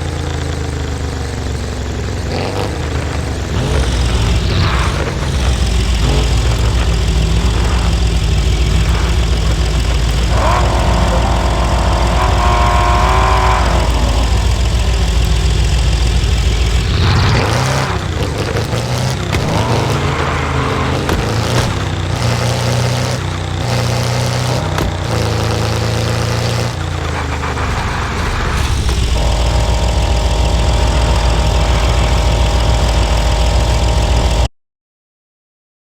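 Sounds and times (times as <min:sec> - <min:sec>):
car engine running: 0:00.0 - 0:34.5.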